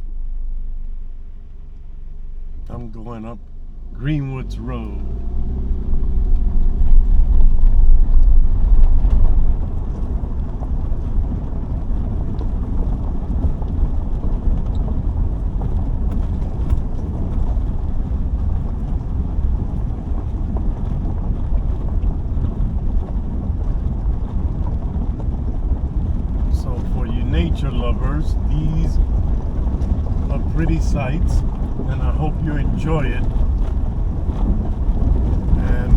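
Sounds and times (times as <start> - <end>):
car engine and tyres on gravel: 0.0 - 35.9.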